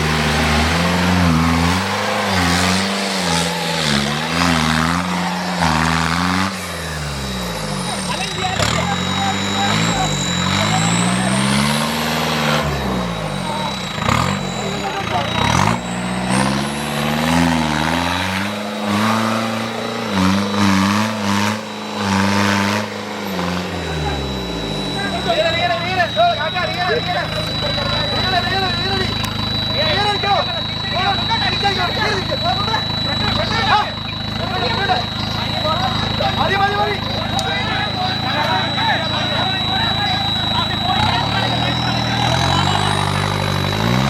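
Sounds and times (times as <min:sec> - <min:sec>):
vehicle engine revving: 0:00.0 - 0:44.0.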